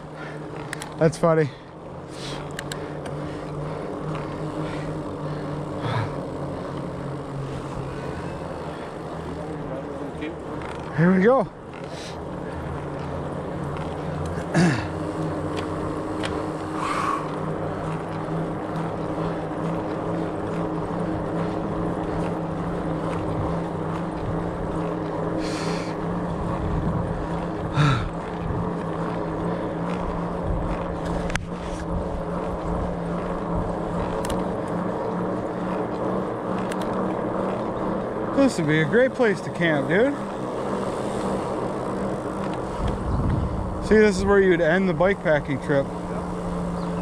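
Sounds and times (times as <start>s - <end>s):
bike tires droning on dirt: 0.0s - 47.0s.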